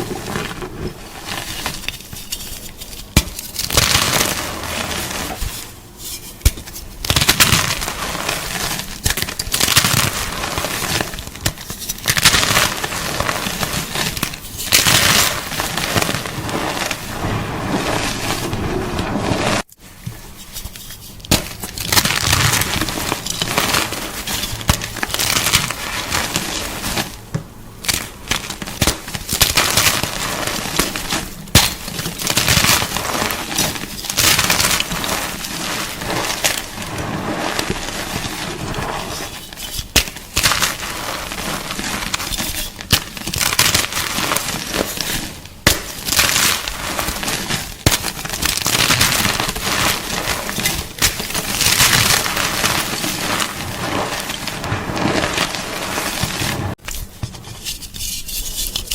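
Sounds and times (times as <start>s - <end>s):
chalk crunching and crumbling: 0.0s - 58.9s.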